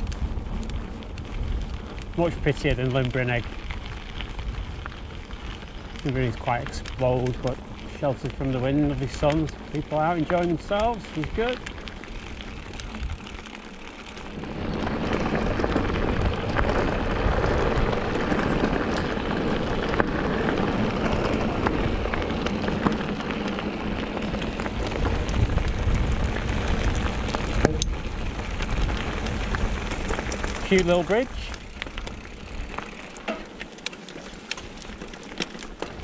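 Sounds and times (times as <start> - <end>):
bike tyres crunching on gravel: 0.0 - 36.0.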